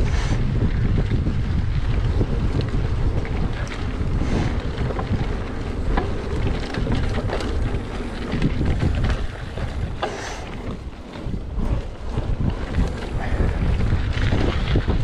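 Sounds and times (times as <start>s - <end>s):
bike clicks and rattles: 0.0s - 15.0s
tyres rumbling on dirt: 0.0s - 15.0s
wind buffeting microphone: 0.0s - 15.0s.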